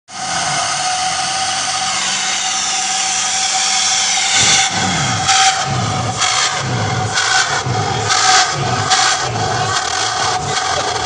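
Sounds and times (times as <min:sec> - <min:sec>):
bus engine growling exhaust: 0:00.1 - 0:11.0
low throbbing: 0:00.1 - 0:11.0
steady high whine: 0:00.2 - 0:11.0.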